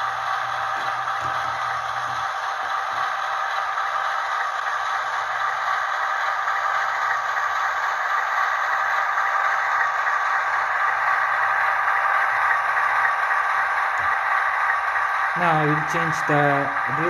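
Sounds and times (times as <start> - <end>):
tinny diesel engine from small speaker: 0.0 - 17.0.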